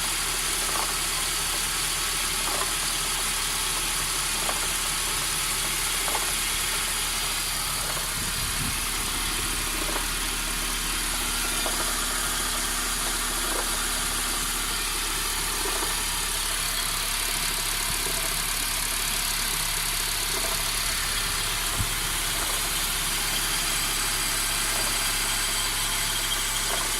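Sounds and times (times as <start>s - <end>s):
car engine idling: 0.0s - 26.9s
engine ticking: 0.0s - 26.9s.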